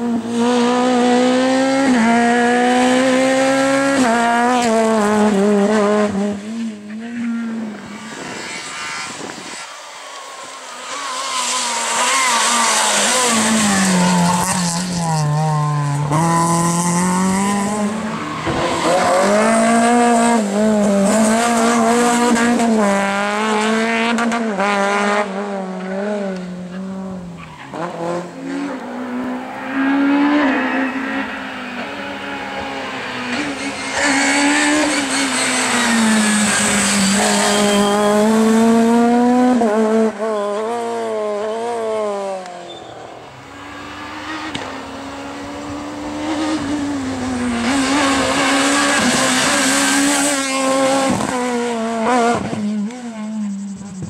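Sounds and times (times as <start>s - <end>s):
rally car engines revving past: 0.0s - 54.0s.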